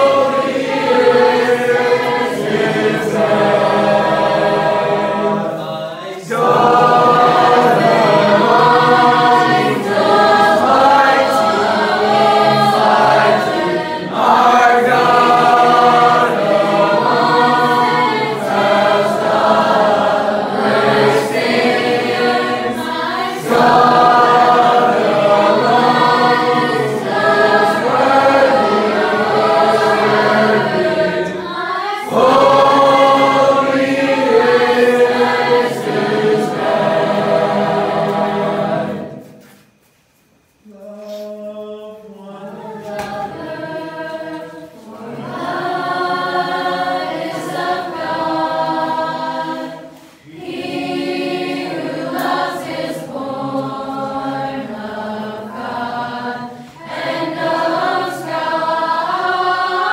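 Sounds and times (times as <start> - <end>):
group singing worship song: 0.0 - 59.9.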